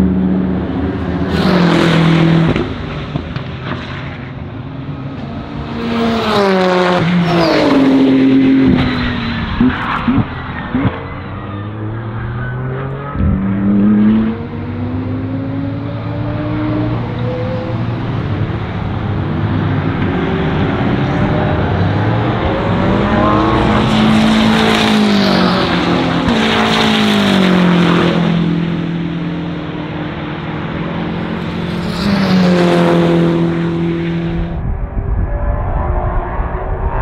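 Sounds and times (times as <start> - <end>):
race car engines: 0.0 - 37.0
race car passing by: 0.0 - 37.0.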